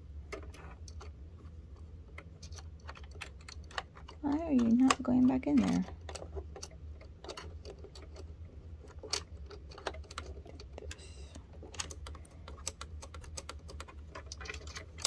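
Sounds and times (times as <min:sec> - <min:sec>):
steady low hum: 0:00.0 - 0:15.0
fingers clicking and tapping parts: 0:00.3 - 0:15.0.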